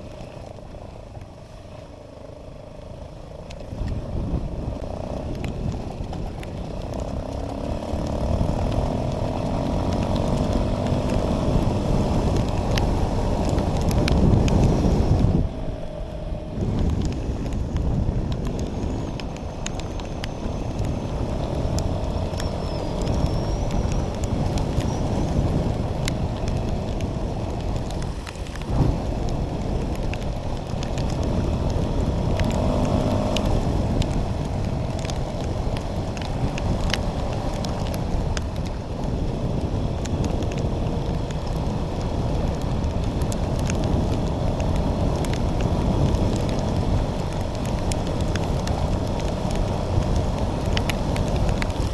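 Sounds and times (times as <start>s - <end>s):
motorcycle engine running: 0.0s - 51.9s
wind buffeting microphone: 3.6s - 51.9s.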